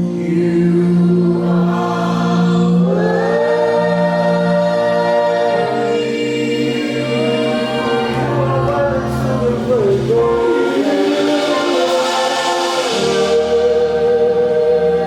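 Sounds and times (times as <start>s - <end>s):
gospel voices singing: 0.0s - 15.0s
sustained chords: 0.0s - 15.0s.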